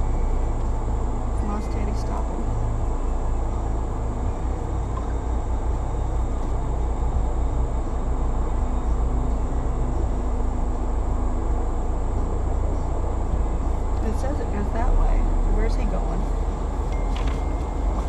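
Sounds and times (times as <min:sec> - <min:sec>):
vehicle engine low rumble: 0:00.0 - 0:18.0.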